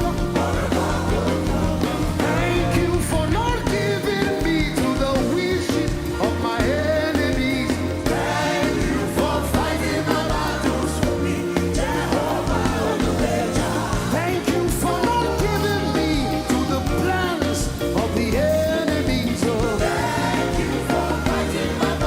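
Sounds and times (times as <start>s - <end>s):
band with bass and drums: 0.0s - 22.0s
gospel singing: 0.0s - 22.0s.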